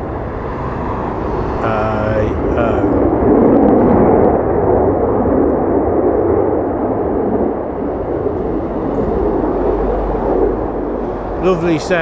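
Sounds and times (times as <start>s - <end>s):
jet aircraft engine roar: 0.0s - 12.0s.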